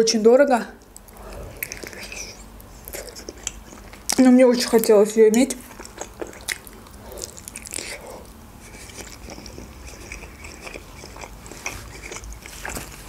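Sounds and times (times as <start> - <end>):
biting and chewing dumpling: 0.8 - 13.0.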